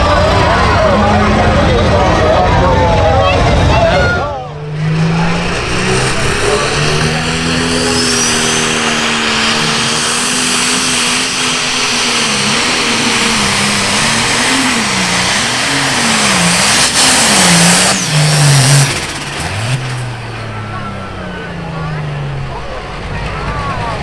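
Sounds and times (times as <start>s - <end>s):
tractor engine roaring: 0.0s - 24.0s.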